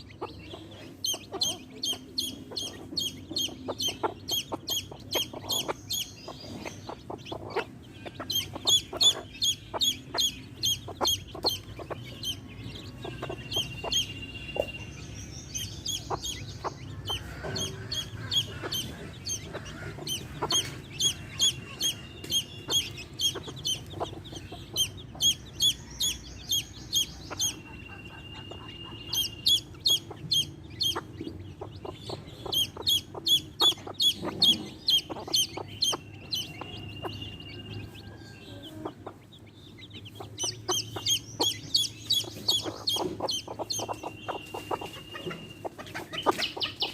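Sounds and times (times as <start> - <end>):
baby chicks peeping: 0.0 - 46.9
hens clucking: 0.0 - 46.9.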